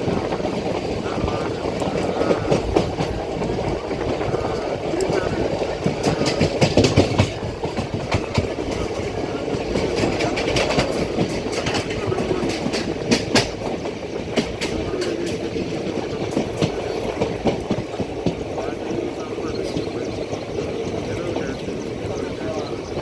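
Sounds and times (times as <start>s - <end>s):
train wheels clattering on rails: 0.0s - 23.0s.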